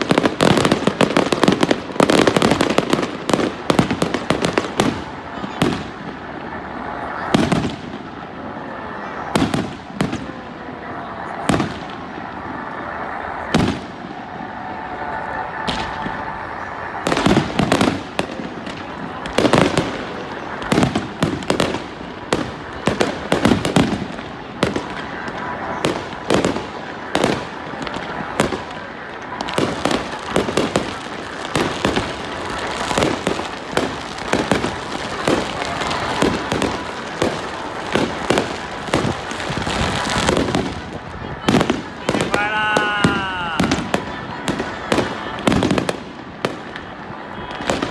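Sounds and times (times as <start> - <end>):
crowd chatter: 0.0 - 47.9
fireworks bursting: 0.0 - 47.9.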